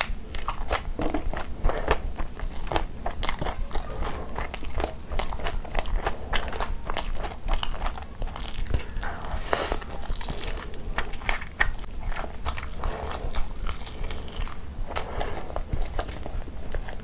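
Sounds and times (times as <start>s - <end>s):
biting and chewing crunchy food: 0.0s - 17.0s.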